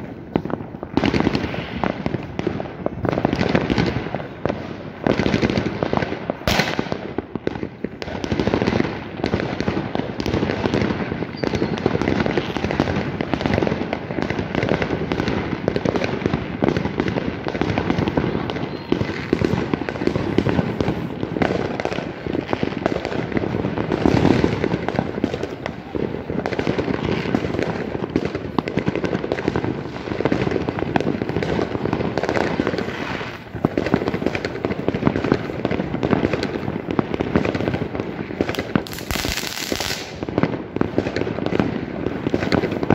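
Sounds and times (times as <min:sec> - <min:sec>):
fireworks crackling and banging: 0:00.0 - 0:42.9
sharp firecracker crack: 0:00.0 - 0:42.9.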